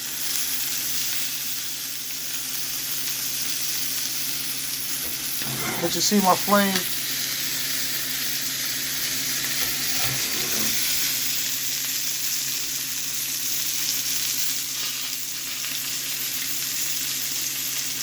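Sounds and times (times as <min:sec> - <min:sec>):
meat sizzling in hot oil: 0:00.0 - 0:18.0.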